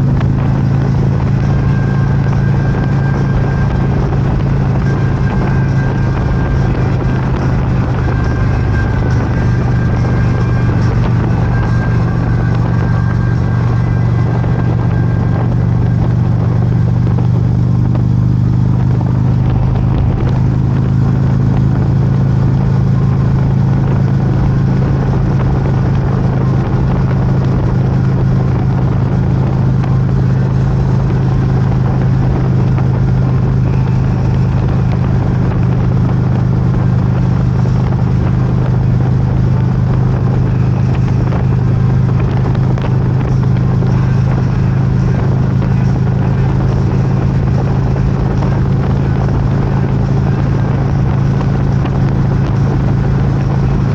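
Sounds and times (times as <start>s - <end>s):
motorcycle engine droning: 0.0s - 53.9s.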